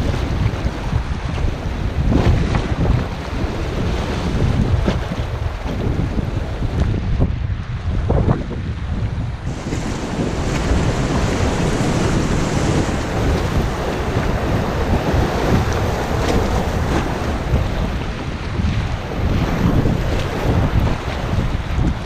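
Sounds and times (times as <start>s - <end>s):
river water rushing and splashing: 0.0s - 8.6s, 9.4s - 22.0s
wind buffeting microphone: 0.0s - 22.0s.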